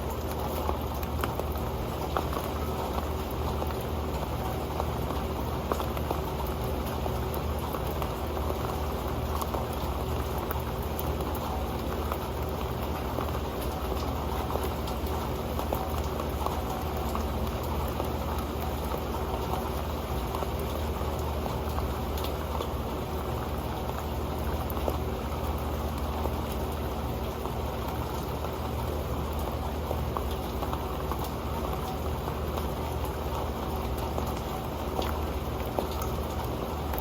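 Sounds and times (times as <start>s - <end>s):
rain ticking on a pan: 0.0s - 37.0s.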